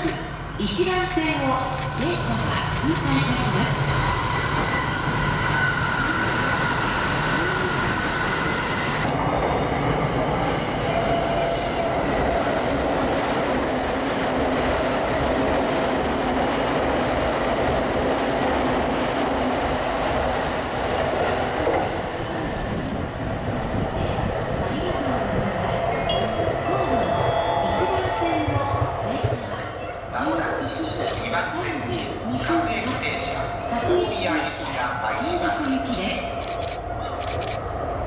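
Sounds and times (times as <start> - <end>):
train passing at speed: 1.7 - 38.0.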